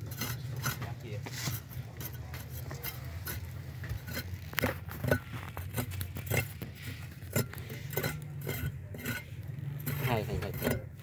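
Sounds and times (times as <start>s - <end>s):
hand tools clinking and scraping: 0.0s - 11.0s.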